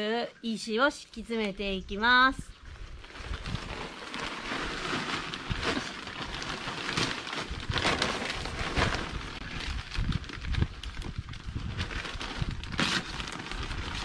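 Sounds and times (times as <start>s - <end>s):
plastic bags crinkling: 2.6s - 14.0s.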